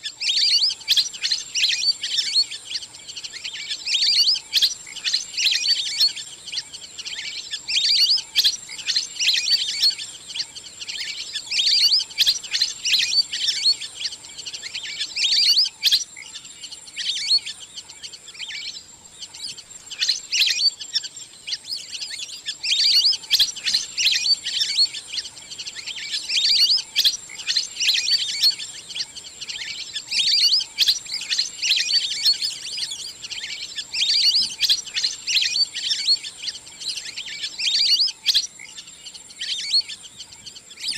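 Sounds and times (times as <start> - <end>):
ducks calling in whistled chirps: 0.0 - 40.9.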